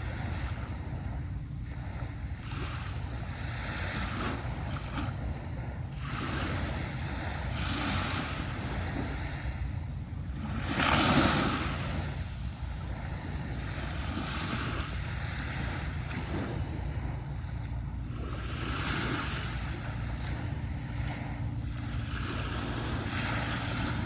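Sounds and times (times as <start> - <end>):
low rumble of surf: 0.0 - 24.0
waves washing up beach: 0.0 - 24.0.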